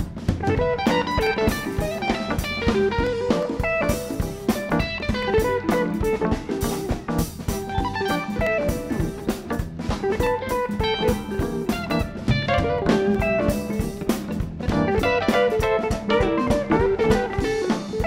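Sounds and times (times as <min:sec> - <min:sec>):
drum kit: 0:00.0 - 0:18.0
electric guitar runs: 0:00.0 - 0:18.0.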